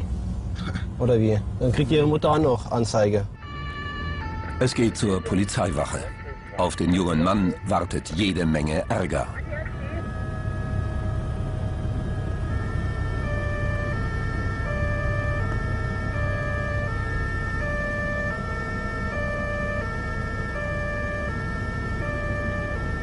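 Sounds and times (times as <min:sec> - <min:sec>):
low vehicle rumble: 0:00.0 - 0:23.0
two-tone emergency siren: 0:03.3 - 0:23.0.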